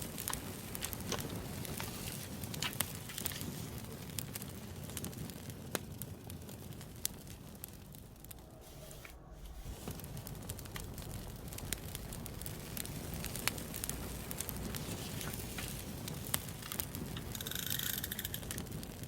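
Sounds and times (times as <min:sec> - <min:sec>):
campfire crackling: 0:00.0 - 0:19.0
fire popping and snapping: 0:00.0 - 0:19.0.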